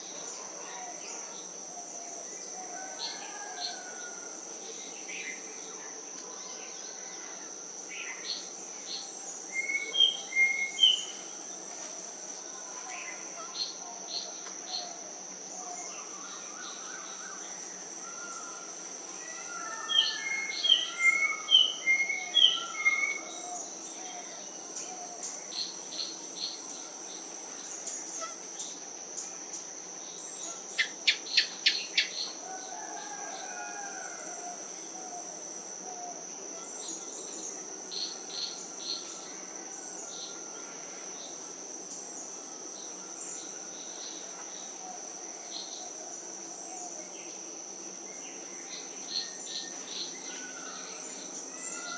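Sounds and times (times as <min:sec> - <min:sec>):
insect drone: 0:00.0 - 0:51.9.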